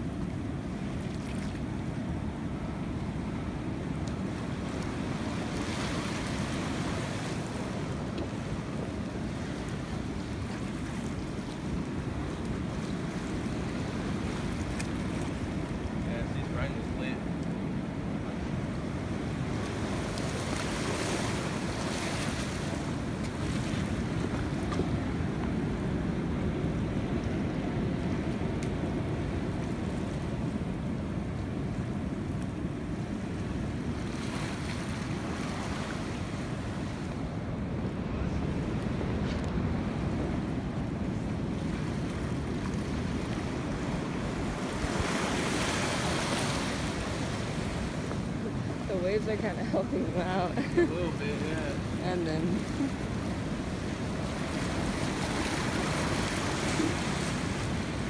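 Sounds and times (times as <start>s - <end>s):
sea waves splashing on pilings: 0.0s - 58.0s
wind rumbling on microphone: 0.0s - 58.0s.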